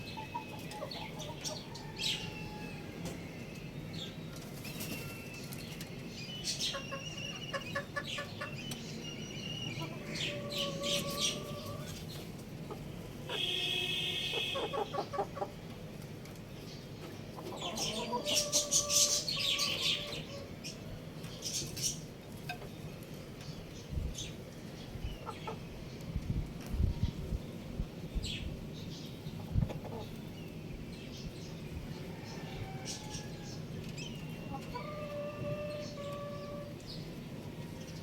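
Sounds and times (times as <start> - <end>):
young rooster chirping and clucking: 0.0 - 15.8, 16.6 - 22.8, 23.4 - 27.4, 28.2 - 38.0.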